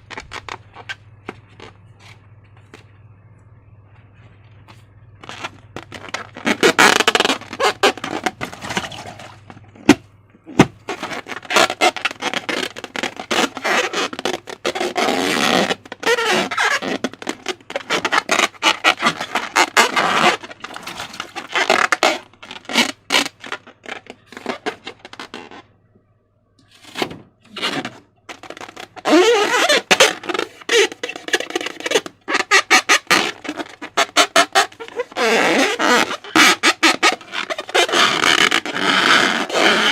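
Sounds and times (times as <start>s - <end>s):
air pockets crackling and popping: 0.0s - 2.9s, 4.7s - 25.7s, 26.8s - 39.9s.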